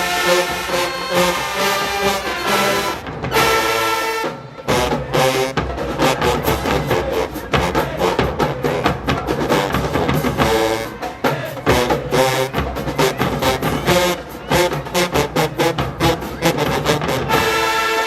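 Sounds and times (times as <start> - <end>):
brass section chords: 0.0 - 18.0
drumline percussion groove: 0.0 - 18.0.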